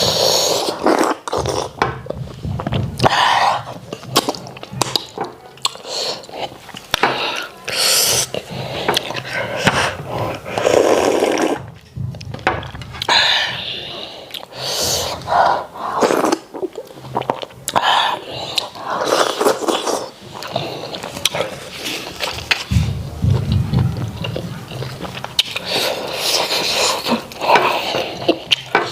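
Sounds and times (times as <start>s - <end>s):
wet smacking and chewing: 0.7s - 12.4s, 16.0s - 28.9s.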